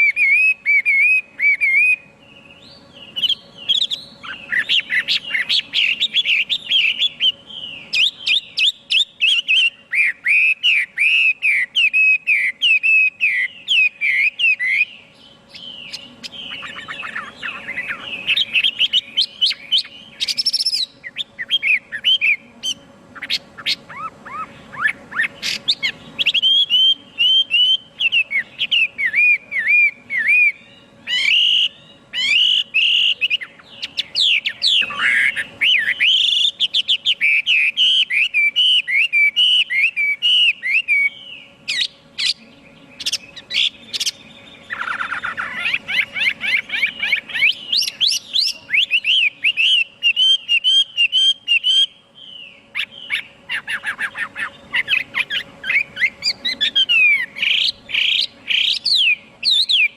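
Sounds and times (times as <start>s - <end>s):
bird singing whistled phrases: 0.0s - 59.9s.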